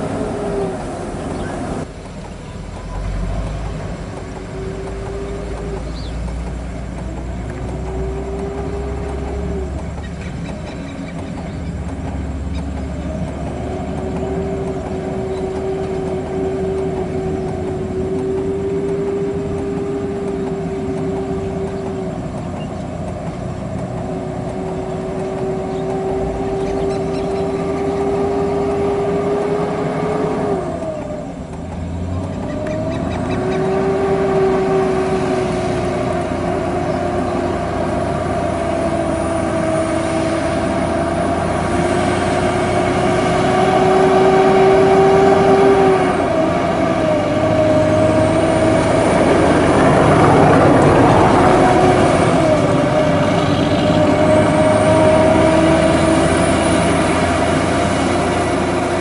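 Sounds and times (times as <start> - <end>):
heavy diesel engines under load: 0.0 - 59.0.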